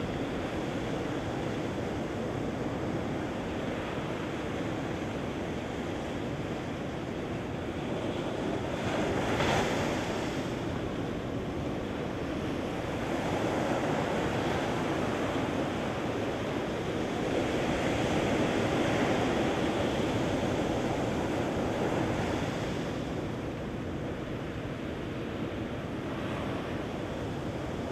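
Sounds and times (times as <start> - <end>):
ocean surf washing on beach: 0.0 - 27.9.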